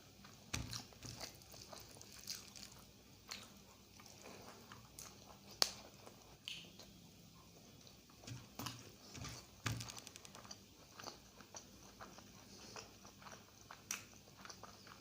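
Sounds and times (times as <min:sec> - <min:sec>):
person chewing with wet smacks: 0:00.1 - 0:15.0.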